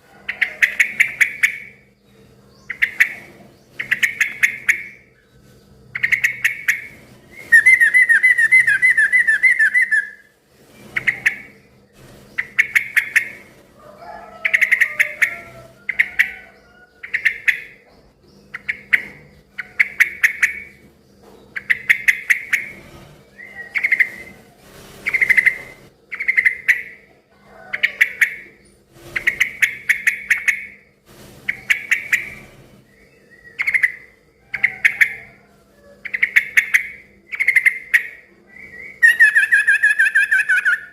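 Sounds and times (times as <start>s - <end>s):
bulbul singing: 0.0s - 10.3s, 11.0s - 13.4s, 14.2s - 22.7s, 23.3s - 24.4s, 25.0s - 27.1s, 31.5s - 35.4s, 36.0s - 40.9s.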